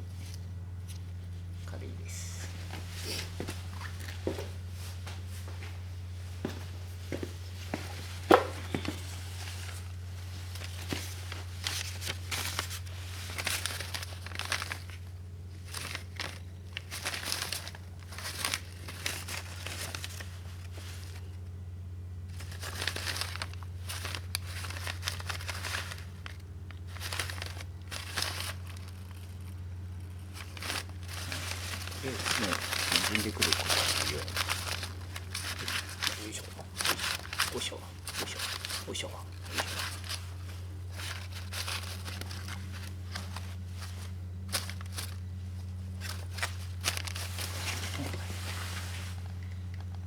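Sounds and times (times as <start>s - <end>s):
steady low hum: 0.0s - 50.0s
material crinkling and rustling: 2.4s - 50.0s.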